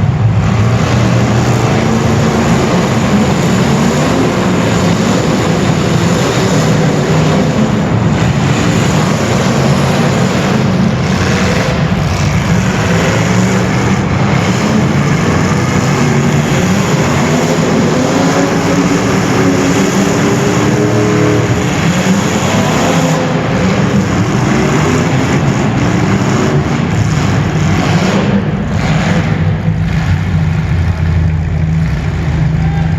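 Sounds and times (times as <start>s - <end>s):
race car engines: 0.0s - 32.9s.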